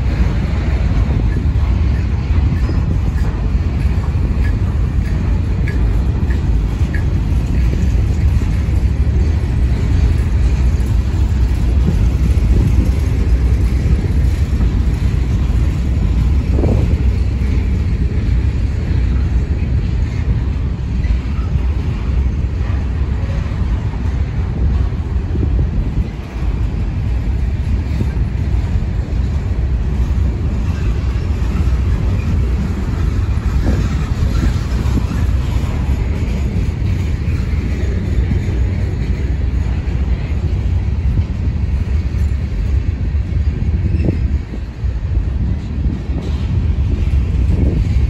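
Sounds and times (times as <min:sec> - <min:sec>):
train knocking: 0:00.0 - 0:48.0
train wheels rumbling on rails: 0:00.0 - 0:48.0.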